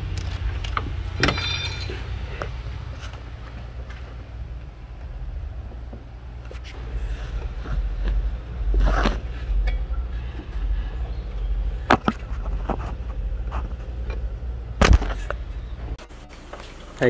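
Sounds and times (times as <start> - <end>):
low rumble of handling noise: 0.0 - 17.0.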